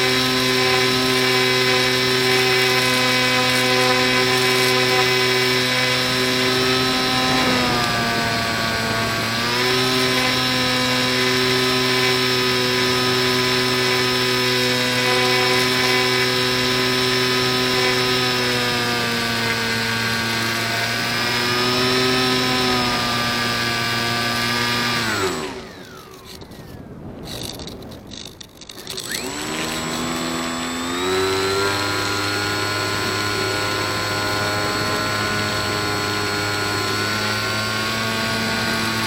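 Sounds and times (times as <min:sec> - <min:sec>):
rc plane electric motor and propeller: 0:00.0 - 0:39.0.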